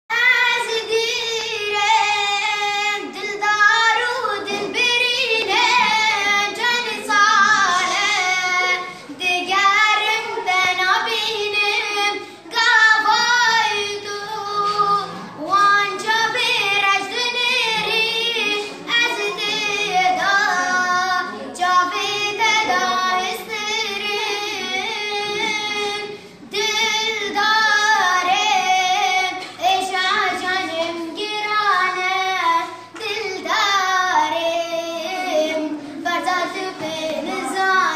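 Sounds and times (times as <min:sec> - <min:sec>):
boy singing: 0:00.1 - 0:37.9.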